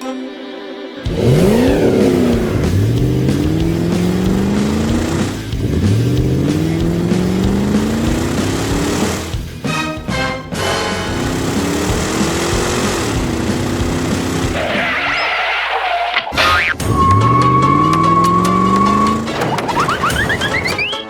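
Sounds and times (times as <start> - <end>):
race car engine accelerating: 1.0 - 16.2, 16.8 - 21.0.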